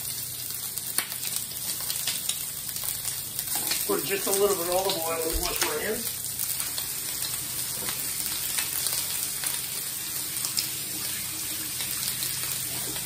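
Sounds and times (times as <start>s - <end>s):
faucet water running: 0.0s - 13.0s.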